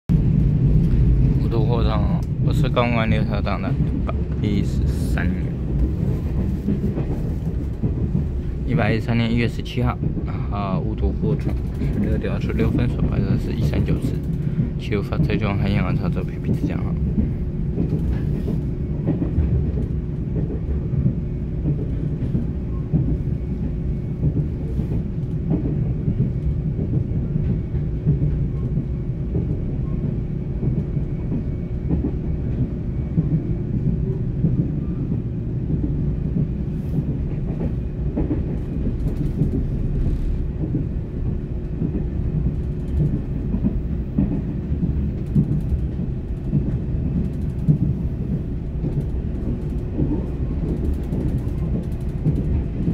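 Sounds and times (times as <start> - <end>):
train wheels rumbling on rail: 0.1 - 52.9.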